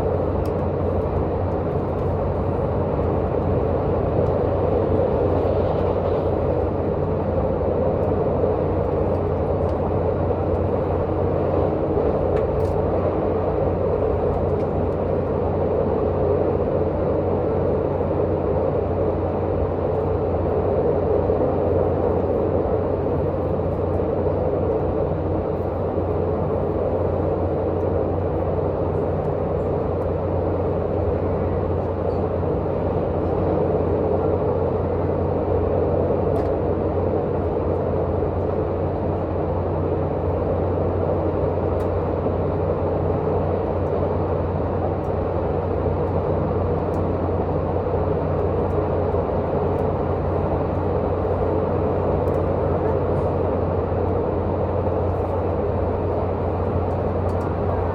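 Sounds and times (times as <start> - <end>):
diesel engine drone: 0.0 - 57.9
train wheel and rail noise: 0.0 - 57.9.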